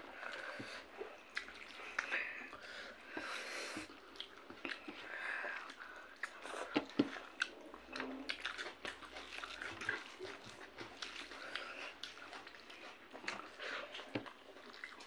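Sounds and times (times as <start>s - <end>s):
chewing and lip smacks: 0.1s - 15.0s.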